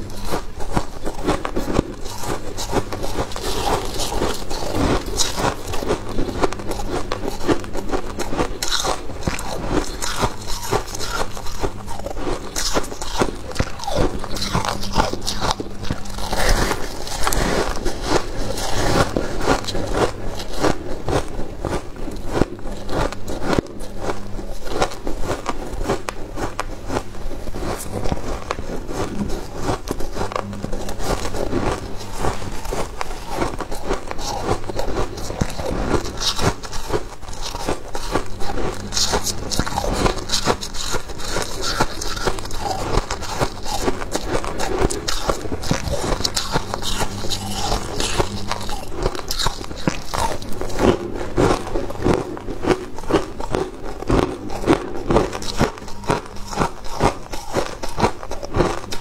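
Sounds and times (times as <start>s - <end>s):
frost being chewed with crunches: 0.0s - 59.0s.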